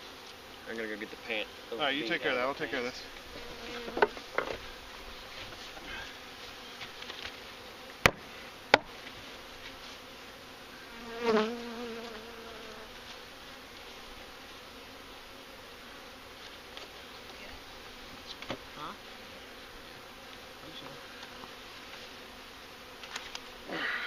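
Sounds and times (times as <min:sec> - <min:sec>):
bee buzzing past close by: 0:00.0 - 0:24.0
honeybees buzzing: 0:00.0 - 0:24.0.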